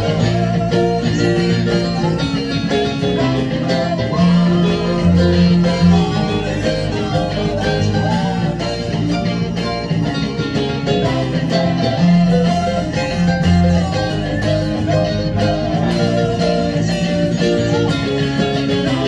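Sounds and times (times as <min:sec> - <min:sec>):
synthesizer keyboard music: 0:00.0 - 0:19.0.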